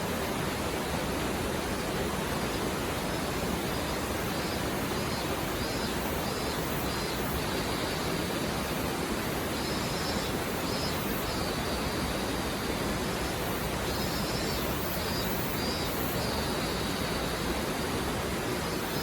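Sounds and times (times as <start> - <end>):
stream flowing over rocks: 0.0 - 19.0.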